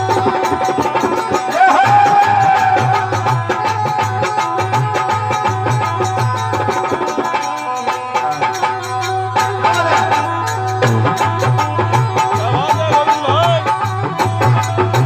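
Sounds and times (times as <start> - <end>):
fast hand drum rhythm: 0.0 - 15.0
held melody line: 0.0 - 15.0.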